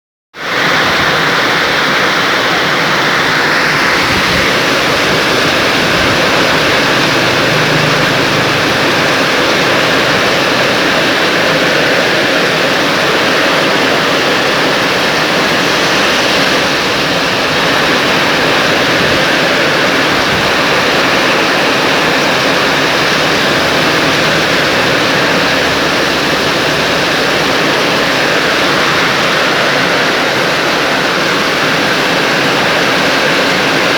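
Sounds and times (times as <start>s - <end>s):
rushing flowing water: 0.4s - 33.9s.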